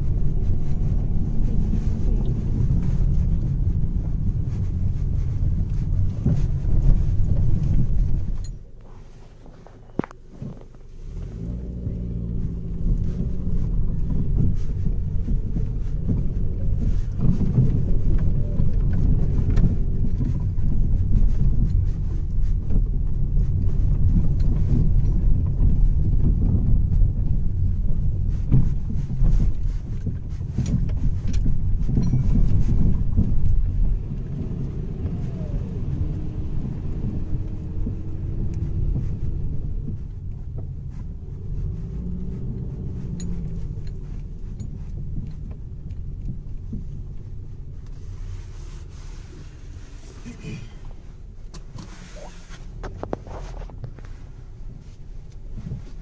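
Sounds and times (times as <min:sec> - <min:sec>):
vehicle engine rumbling: 0:00.0 - 0:56.0.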